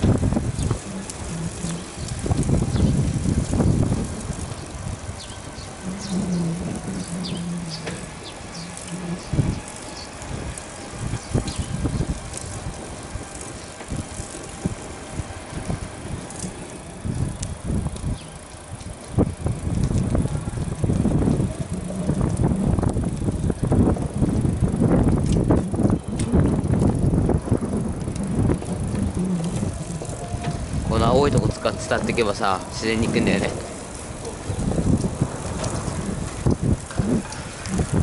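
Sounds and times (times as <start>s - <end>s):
wind and road noise rumble: 0.0s - 38.0s.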